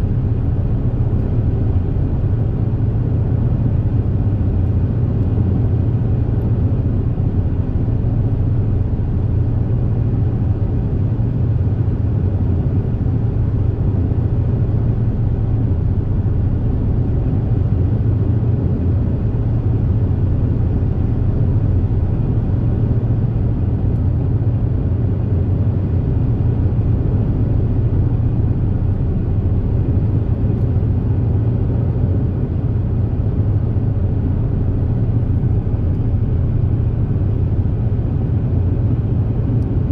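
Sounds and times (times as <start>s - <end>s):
ferry engine rumble: 0.0s - 39.9s.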